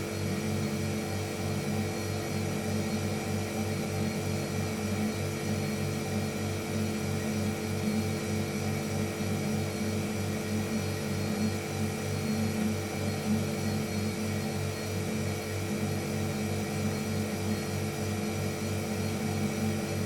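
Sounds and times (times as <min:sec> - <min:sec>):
refrigerator compressor humming: 0:00.0 - 0:20.0.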